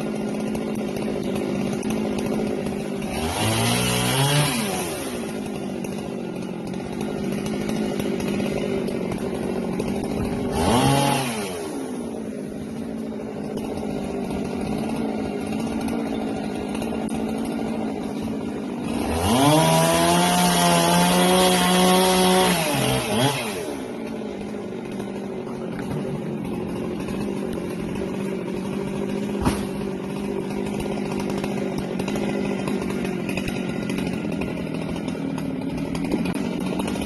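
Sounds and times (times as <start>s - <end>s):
chainsaw idling and revving: 0.0s - 37.0s.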